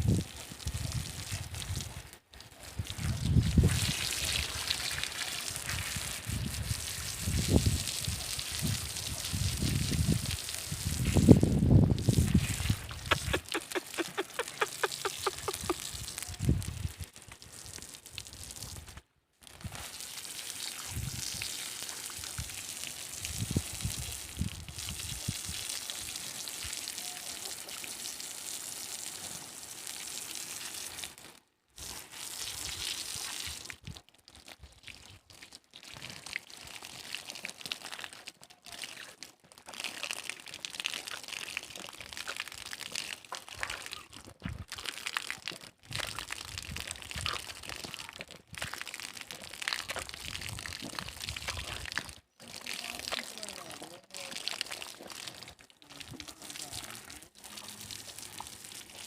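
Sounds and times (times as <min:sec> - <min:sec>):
water splashing and running: 0:00.0 - 0:33.8, 0:35.1 - 0:59.0.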